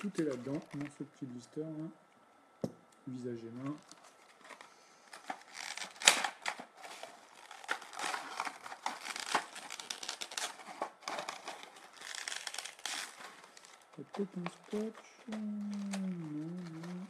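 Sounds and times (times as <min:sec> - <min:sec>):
plastic blister pack crinkling: 0:00.0 - 0:01.1, 0:03.6 - 0:17.0.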